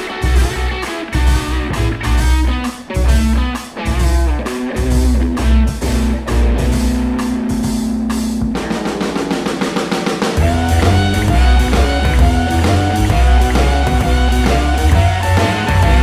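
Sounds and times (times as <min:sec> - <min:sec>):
drum fill: 0:00.0 - 0:16.0
rock music with drums bass and guitar: 0:00.0 - 0:16.0.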